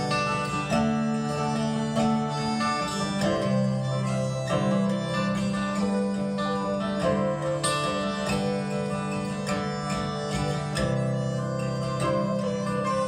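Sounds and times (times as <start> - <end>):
accordion chords: 0.0 - 13.0
picked banjo: 0.0 - 13.0
strummed acoustic guitar: 0.0 - 13.0.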